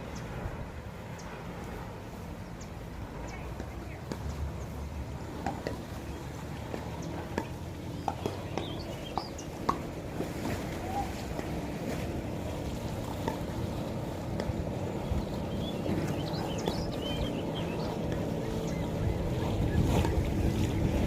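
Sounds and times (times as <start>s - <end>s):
small water sounds: 0.0s - 21.0s
steady low rumble: 0.0s - 21.0s.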